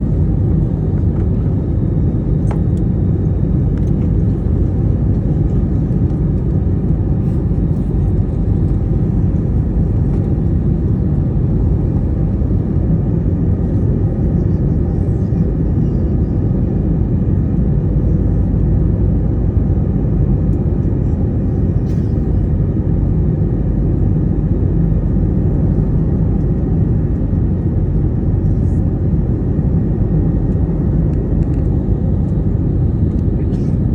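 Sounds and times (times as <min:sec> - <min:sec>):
airliner landing rumble: 0:00.0 - 0:33.9.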